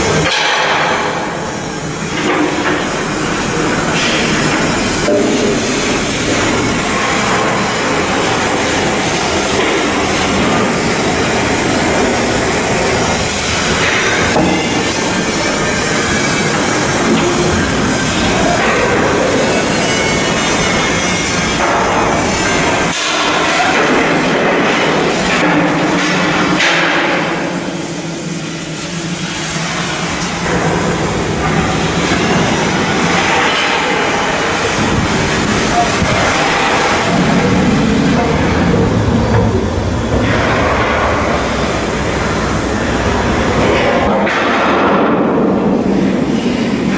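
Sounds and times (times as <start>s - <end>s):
continuous industrial hiss: 0.0s - 46.9s
loud machinery noise: 0.0s - 46.9s.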